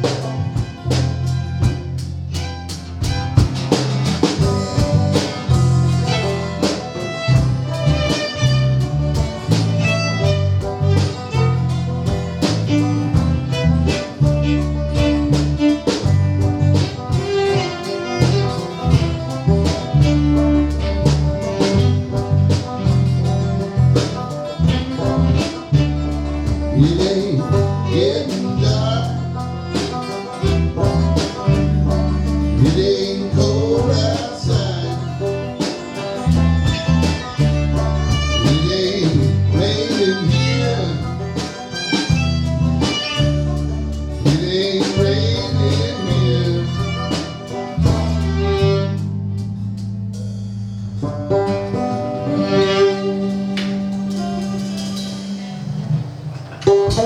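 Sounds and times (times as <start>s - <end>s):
bluegrass guitar: 0.0s - 57.0s
fiddle playing: 0.0s - 57.0s
low bass line: 0.0s - 57.0s.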